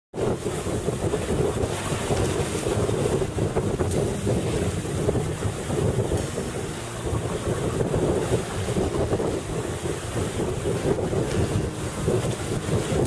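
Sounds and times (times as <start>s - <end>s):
water rushing along hull: 0.1s - 13.0s
wind buffeting microphone: 0.1s - 13.0s.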